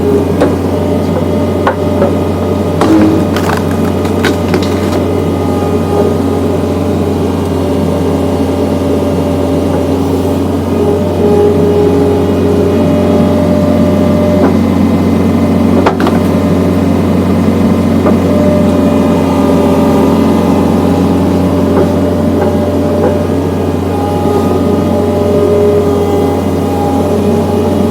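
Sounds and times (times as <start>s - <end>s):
engine running under load: 0.0s - 27.9s.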